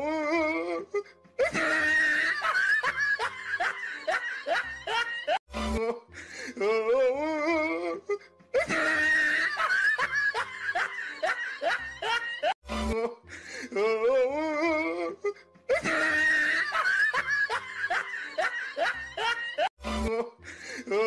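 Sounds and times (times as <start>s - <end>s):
music: 0.0s - 21.0s
comic laughter sound effect: 0.6s - 21.0s.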